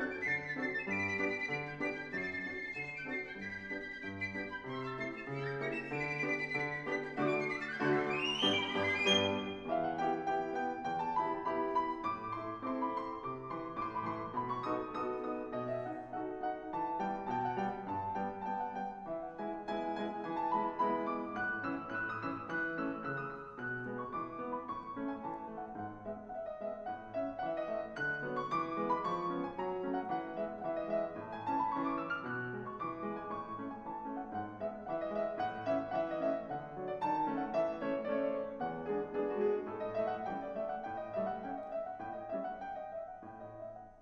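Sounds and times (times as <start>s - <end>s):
grand piano playing a polka: 0.0s - 44.0s.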